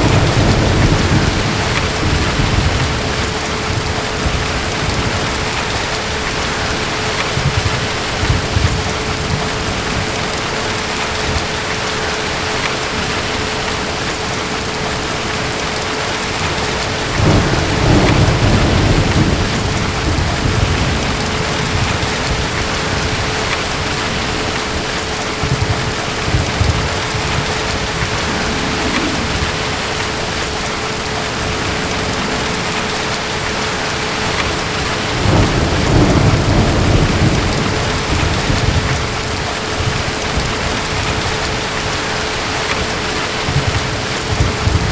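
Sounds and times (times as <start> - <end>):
distant thunder rolling: 0.0 - 44.9
heavy rain: 0.0 - 44.9.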